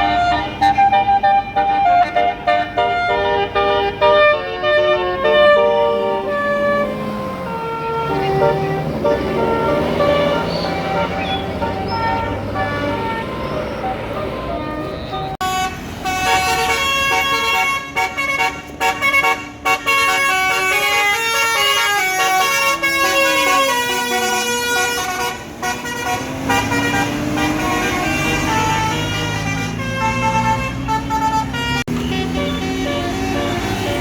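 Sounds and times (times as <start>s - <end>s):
musical air horn melody: 0.0s - 34.0s.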